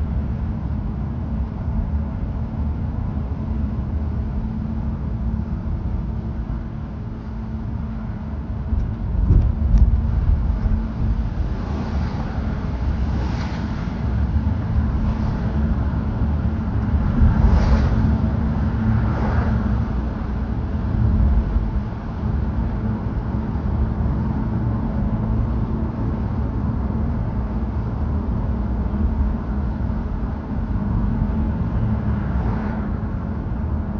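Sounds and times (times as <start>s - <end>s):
vehicle and road rumble: 0.0s - 33.9s.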